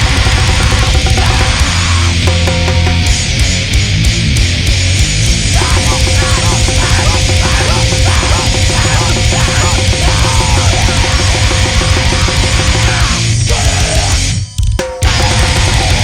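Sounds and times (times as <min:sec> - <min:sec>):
steady held tone: 0:00.0 - 0:03.7, 0:05.5 - 0:16.0
heavily distorted fast punk music: 0:00.0 - 0:16.0.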